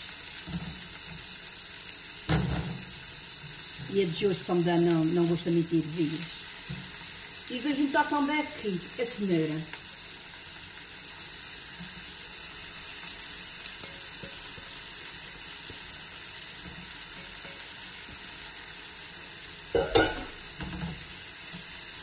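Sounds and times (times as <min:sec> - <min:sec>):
vegetables sizzling in wok: 0:00.0 - 0:22.0.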